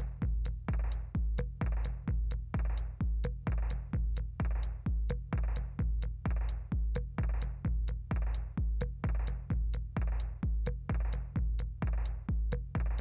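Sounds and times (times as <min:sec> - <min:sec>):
deep kick drum: 0:00.0 - 0:13.0
electronic music with steady beat: 0:00.0 - 0:13.0
hi-hat ticks: 0:00.0 - 0:13.0.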